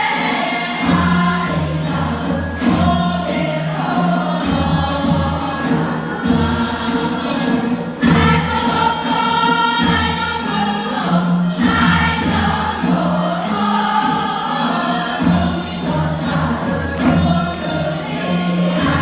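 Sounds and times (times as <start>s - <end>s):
group of voices singing: 0.0s - 19.0s
instrumental accompaniment: 0.0s - 19.0s.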